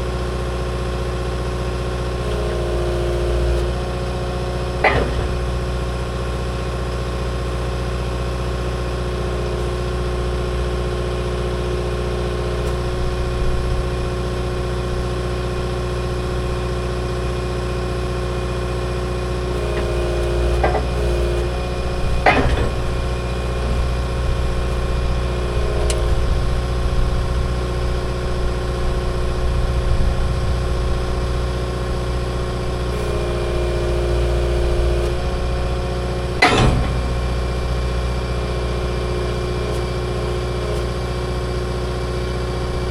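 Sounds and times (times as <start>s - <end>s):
skid steer engine running: 0.0s - 42.9s.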